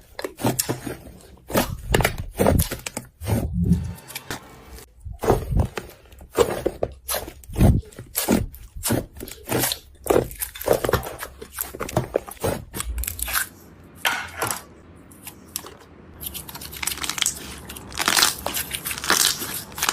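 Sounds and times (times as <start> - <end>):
slime crunching and crackling: 0.0 - 3.6, 5.2 - 13.6, 15.2 - 19.9.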